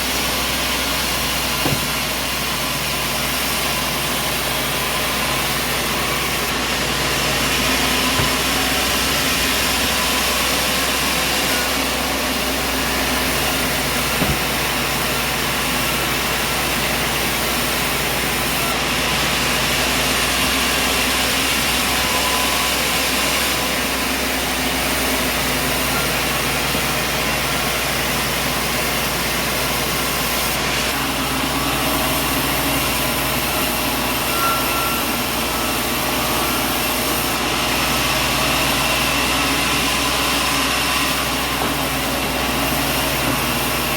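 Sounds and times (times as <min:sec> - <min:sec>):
sawmill machinery running: 0:00.0 - 0:43.9.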